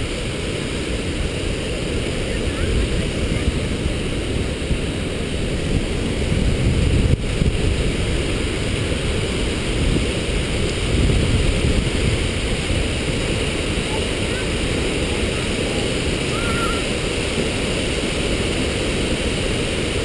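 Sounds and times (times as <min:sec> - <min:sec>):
waterfall rushing: 0:00.0 - 0:20.0
wind buffeting microphone: 0:00.0 - 0:20.0.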